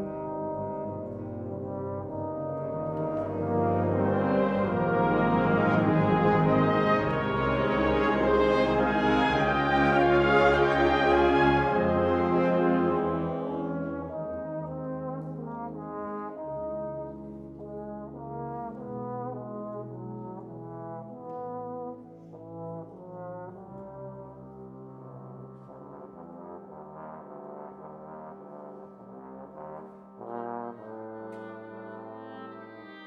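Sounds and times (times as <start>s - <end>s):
solo trombone melody: 0.0s - 33.0s
wind band chords: 0.0s - 33.0s.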